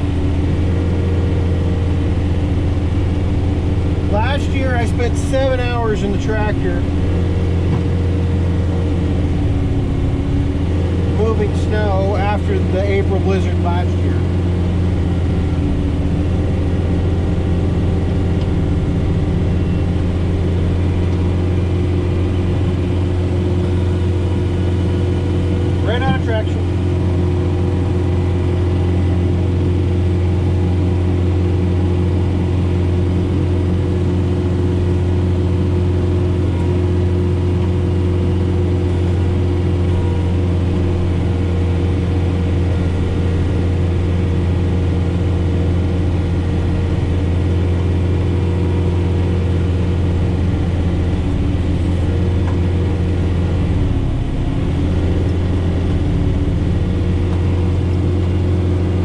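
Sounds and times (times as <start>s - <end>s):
snowblower through wet snow: 0.0s - 59.0s
tractor diesel engine under load: 0.0s - 59.0s.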